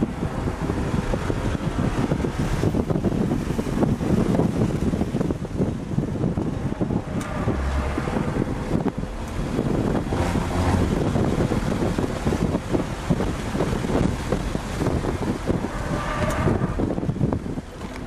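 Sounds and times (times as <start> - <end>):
car engine under load: 0.0 - 18.0
wind and road noise: 0.0 - 18.0.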